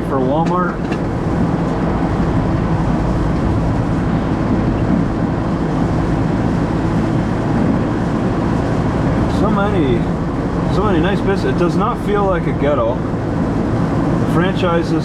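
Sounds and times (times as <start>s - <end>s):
car cabin road noise: 0.0s - 15.0s
low engine hum: 0.0s - 15.0s.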